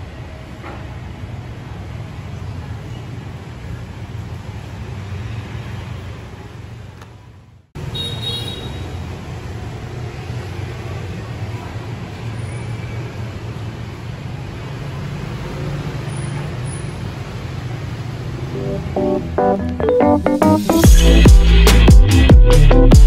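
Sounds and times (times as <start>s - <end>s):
road traffic with low hum: 0.0s - 21.8s.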